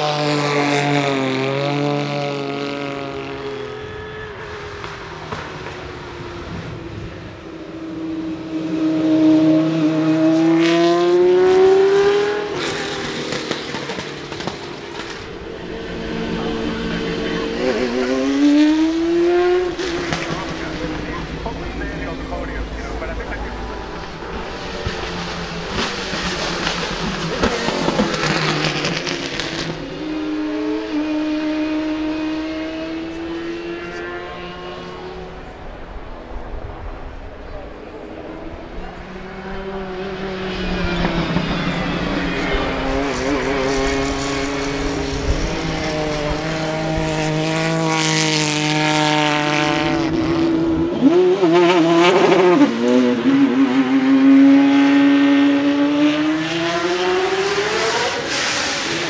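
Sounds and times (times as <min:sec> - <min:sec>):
sports car engine accelerating past: 0:00.0 - 0:59.0.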